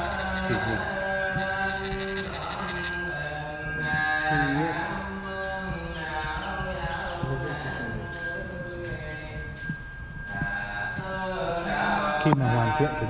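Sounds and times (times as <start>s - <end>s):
background music with ringing tones: 0.0s - 13.0s.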